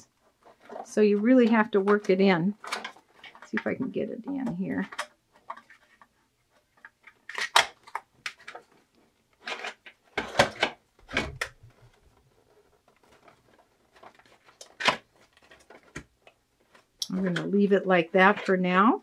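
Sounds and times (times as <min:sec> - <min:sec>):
plastic toy pieces scraping and clicking: 0:00.1 - 0:19.0.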